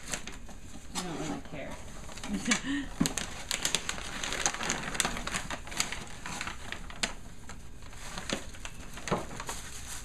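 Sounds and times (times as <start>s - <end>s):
wrapping paper tearing and crackling: 0.0s - 10.0s.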